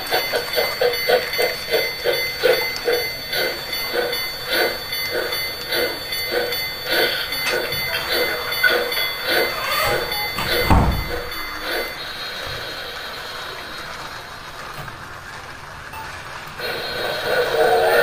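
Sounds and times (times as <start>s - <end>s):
toy train rhythmic chugging: 0.0s - 18.0s.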